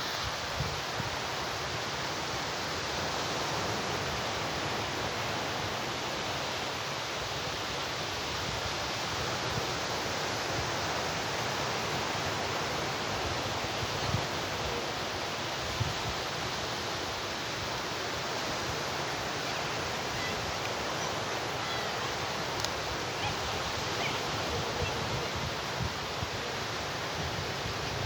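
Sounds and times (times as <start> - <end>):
sea surf rushing: 0.0 - 28.0.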